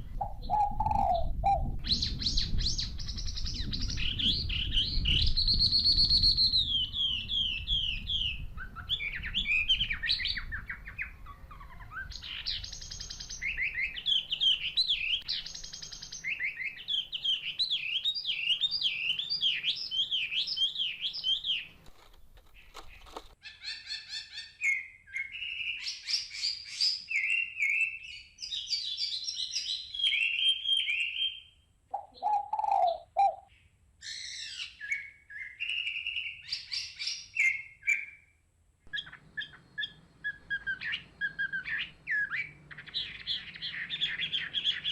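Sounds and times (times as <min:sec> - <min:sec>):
lower bird call: 0:00.0 - 0:44.9
small birds chirping: 0:00.0 - 0:44.9.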